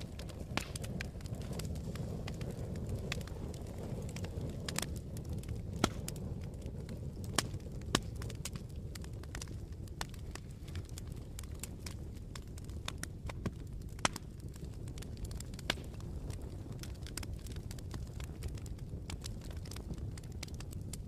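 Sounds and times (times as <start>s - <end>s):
sharp pops of burning logs: 0.0s - 21.0s
wood fire crackling: 0.0s - 21.0s.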